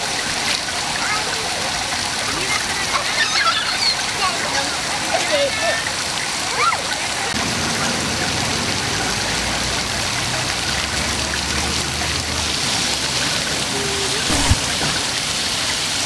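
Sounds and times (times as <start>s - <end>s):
fountain water splashing on pavement: 0.0s - 16.0s.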